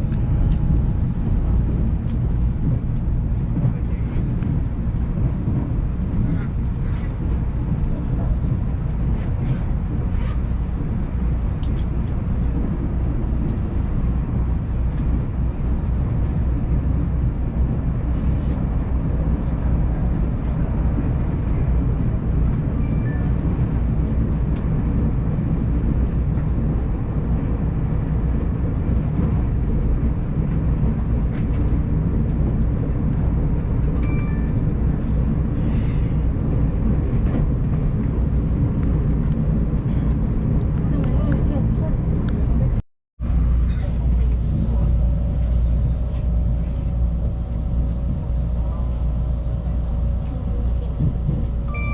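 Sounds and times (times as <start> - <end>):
train rumble inside carriage: 0.0 - 51.9.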